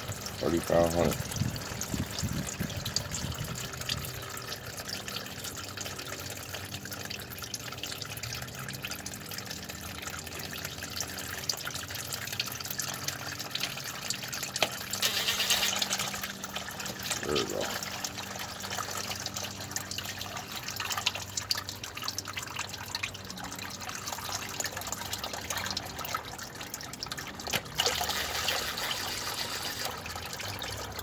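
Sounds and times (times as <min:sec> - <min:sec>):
fluid trickling into pan: 0:00.0 - 0:31.0.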